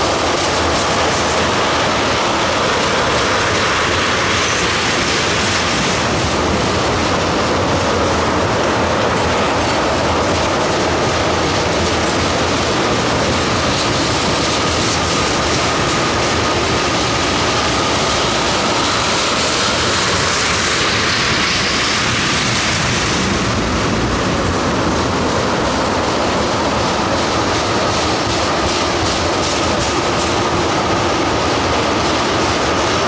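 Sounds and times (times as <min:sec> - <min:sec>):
steel wheels roaring on rail: 0:00.0 - 0:33.0.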